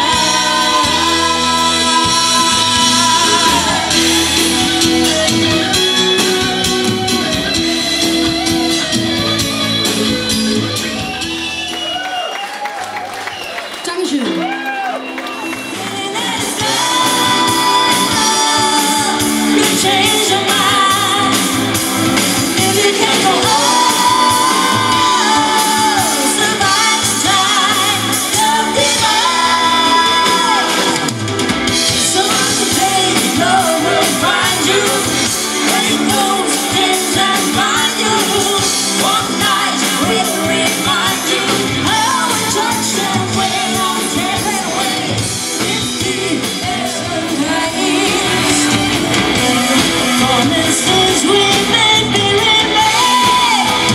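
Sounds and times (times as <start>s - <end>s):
person singing: 0.0s - 10.9s, 15.7s - 53.9s
live rock band: 0.0s - 53.9s.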